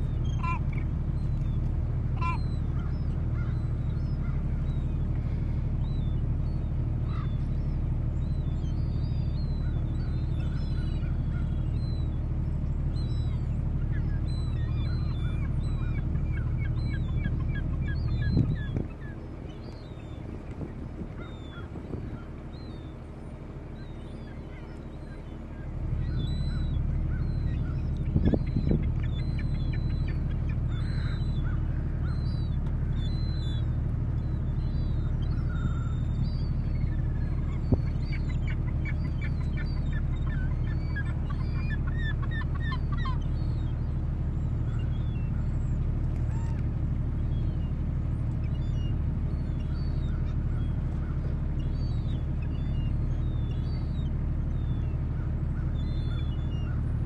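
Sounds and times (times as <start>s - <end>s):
gulls calling: 0.0s - 57.0s
steady low rumble: 0.0s - 57.0s.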